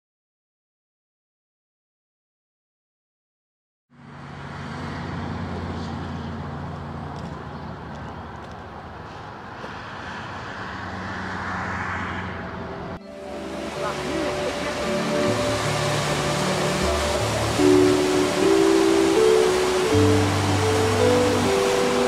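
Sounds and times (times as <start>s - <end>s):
road noise: 3.9s - 22.0s.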